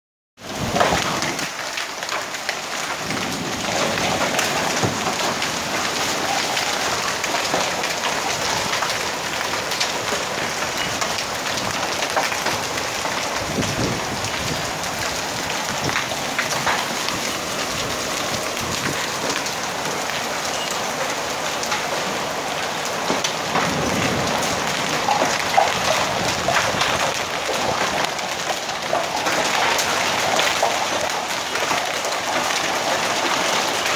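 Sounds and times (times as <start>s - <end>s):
hailstones clicking on surfaces: 0.4s - 33.9s.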